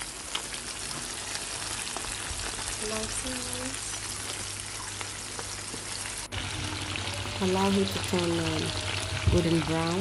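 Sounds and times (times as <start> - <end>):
chicken frying in hot oil: 0.0 - 10.0.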